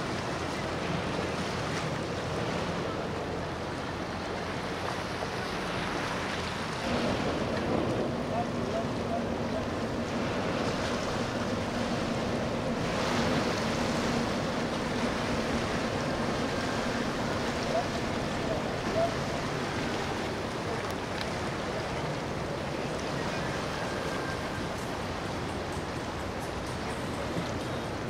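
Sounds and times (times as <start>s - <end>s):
water rushing along boat hull: 0.0s - 28.0s.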